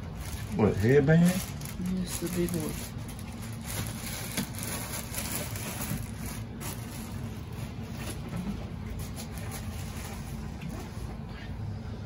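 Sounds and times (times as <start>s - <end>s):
rustling and handling noises: 0.0s - 11.4s
low background rumble and hiss: 0.0s - 12.0s.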